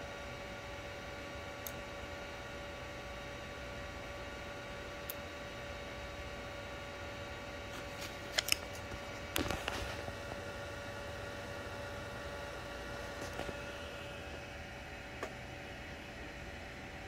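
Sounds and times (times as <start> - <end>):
printer fan humming: 0.0 - 17.0.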